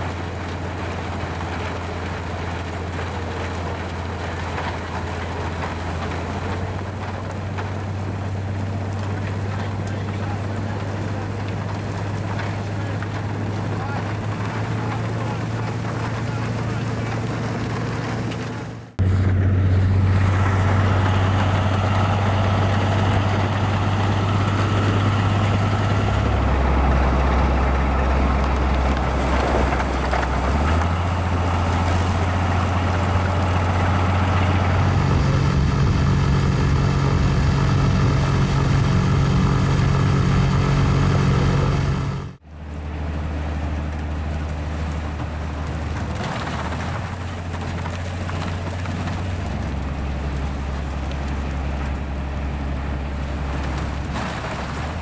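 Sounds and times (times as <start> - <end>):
low machine drone: 0.0 - 47.0.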